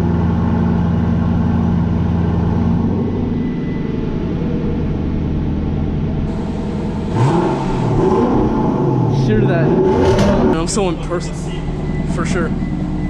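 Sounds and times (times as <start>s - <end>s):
car engine idling: 0.0s - 13.0s
car engine revving: 0.0s - 13.0s.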